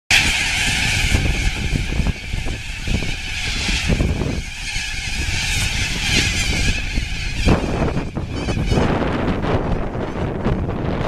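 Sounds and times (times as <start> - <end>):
flock of parrots calling: 0.1 - 9.4
steady low rumble: 0.1 - 11.0.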